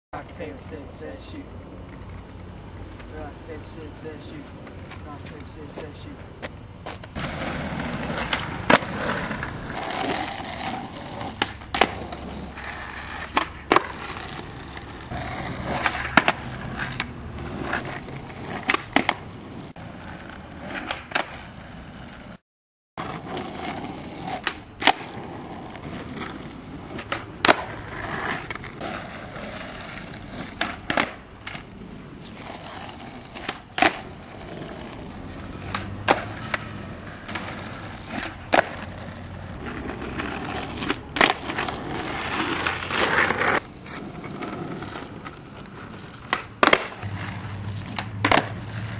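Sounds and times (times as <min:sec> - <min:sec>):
skateboard wheels rolling on asphalt: 0:00.2 - 0:22.4, 0:23.0 - 0:48.9
skateboard clacks: 0:05.8 - 0:22.3, 0:23.0 - 0:48.9.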